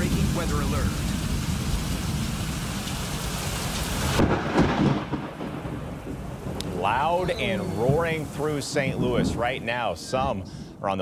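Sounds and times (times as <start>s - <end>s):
heavy rain pouring: 0.0s - 10.8s
thunder rumbling: 0.0s - 11.0s.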